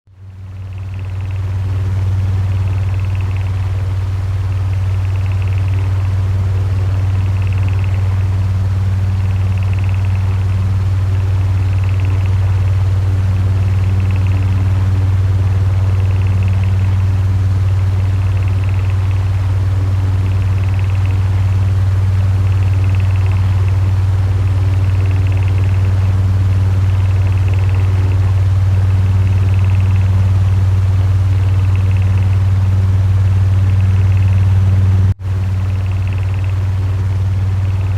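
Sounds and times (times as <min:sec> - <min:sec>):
electric fan running: 0:00.1 - 0:37.9.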